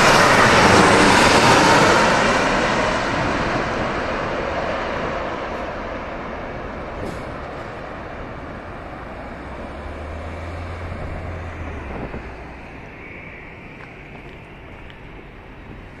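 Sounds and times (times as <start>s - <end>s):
jet airliner passing overhead: 0.0s - 16.0s.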